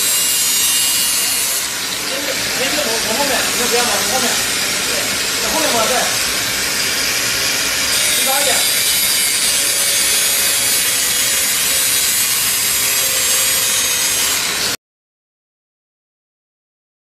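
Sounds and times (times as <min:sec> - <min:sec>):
angle grinder grinding metal: 0:00.0 - 0:14.8.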